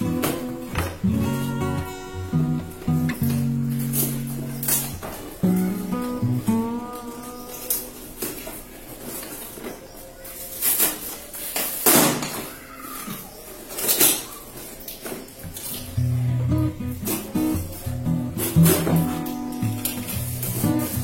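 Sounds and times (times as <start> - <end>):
packaging noise: 0.0 - 21.0.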